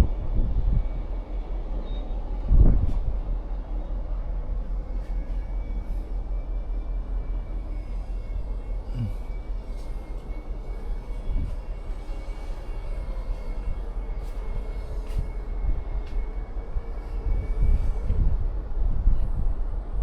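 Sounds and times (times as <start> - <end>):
faint high whine: 0.0 - 19.8
low machinery rumble: 0.0 - 20.0.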